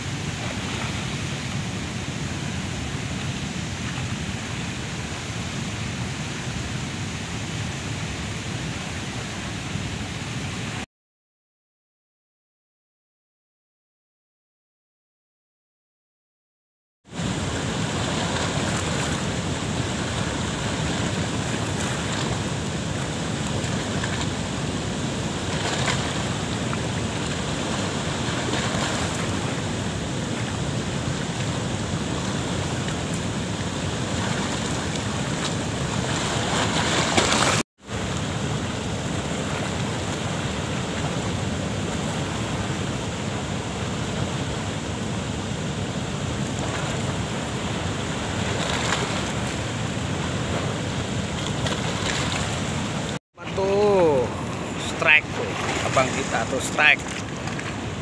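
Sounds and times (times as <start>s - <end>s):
water rushing through dam spillway: 0.0s - 10.8s, 17.1s - 58.0s.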